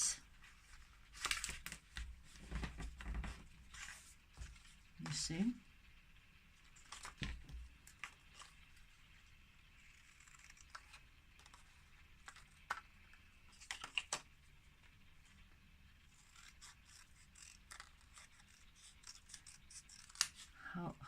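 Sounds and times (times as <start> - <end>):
paper and photos handled: 0.4 - 5.2, 6.6 - 8.9, 9.8 - 15.0, 16.1 - 20.6.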